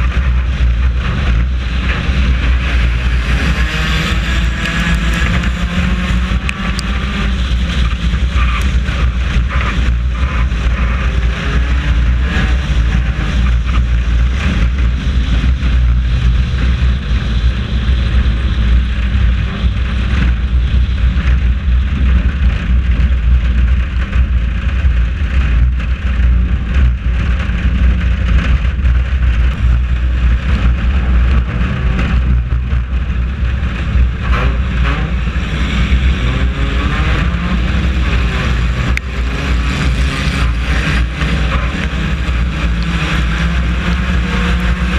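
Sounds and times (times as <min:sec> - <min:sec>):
race car engine revving: 0:00.0 - 0:44.9
wind and road noise: 0:00.0 - 0:44.9.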